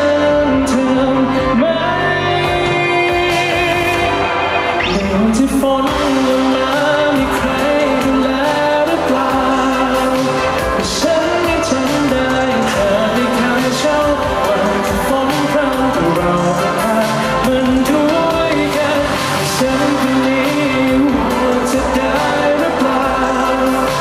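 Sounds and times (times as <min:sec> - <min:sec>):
man singing with vibrato: 0:00.0 - 0:24.0
pop band instrumental backing: 0:00.0 - 0:24.0.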